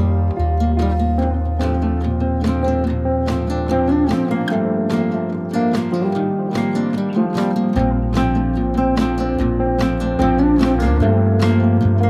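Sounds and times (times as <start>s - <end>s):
plucked string background music: 0.0s - 12.0s.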